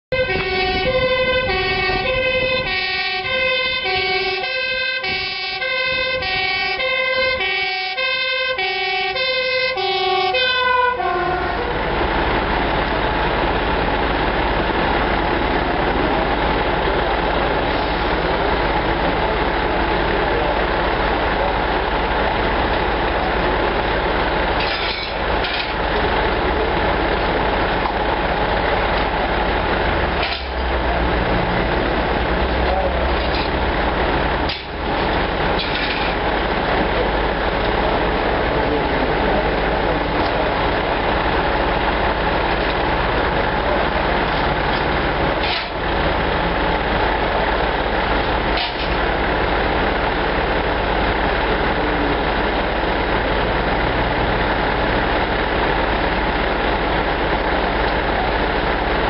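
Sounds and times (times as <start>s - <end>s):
two-tone fire engine siren: 0.1s - 58.7s
loud steady rumbling: 0.1s - 59.0s.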